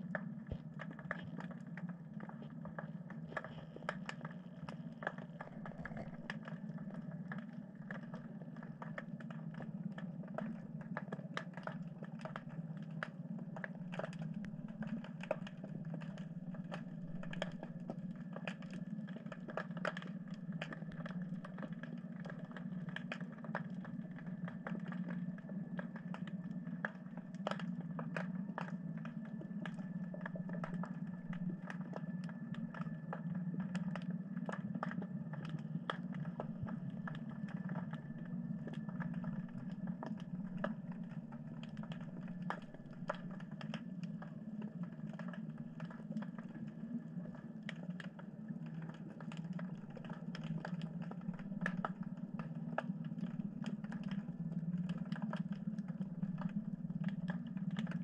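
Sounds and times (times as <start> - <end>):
low underwater hum: 0.0 - 58.0.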